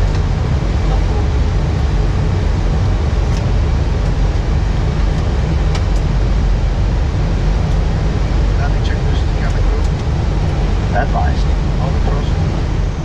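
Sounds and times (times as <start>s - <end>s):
airflow and engine rush: 0.0s - 13.0s.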